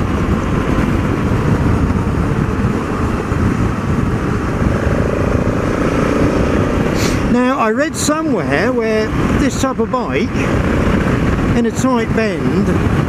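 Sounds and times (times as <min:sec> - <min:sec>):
motorcycle engine cruising: 0:00.0 - 0:13.0
wind rush: 0:00.0 - 0:13.0.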